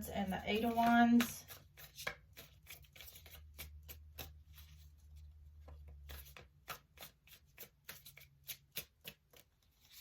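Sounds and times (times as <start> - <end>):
cards being shuffled: 0.3 - 10.0.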